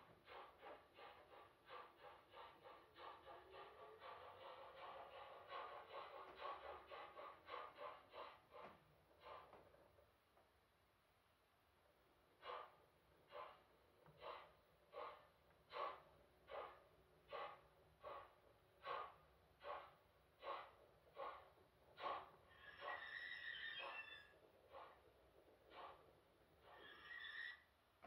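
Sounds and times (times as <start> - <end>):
steam locomotive exhaust chuffs: 0.0 - 9.8, 12.3 - 27.0.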